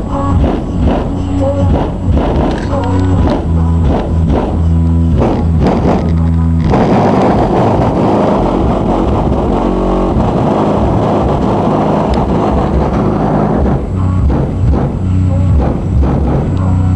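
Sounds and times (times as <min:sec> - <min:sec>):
loud distorted bass-heavy music: 0:00.0 - 0:16.9.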